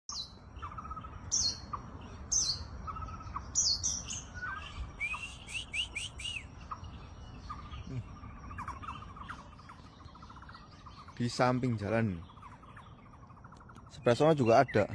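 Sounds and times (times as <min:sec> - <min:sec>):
bird singing whistled notes: 0:00.1 - 0:14.9.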